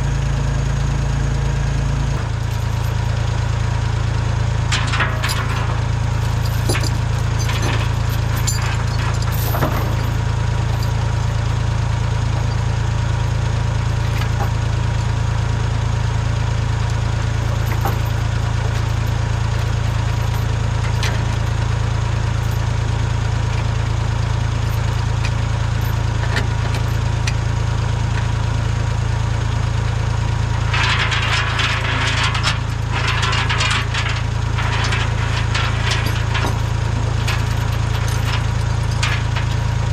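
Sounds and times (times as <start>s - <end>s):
tractor engine running: 0.0s - 39.9s
clanks and rattles: 2.1s - 15.4s, 16.6s - 28.3s, 30.0s - 39.9s.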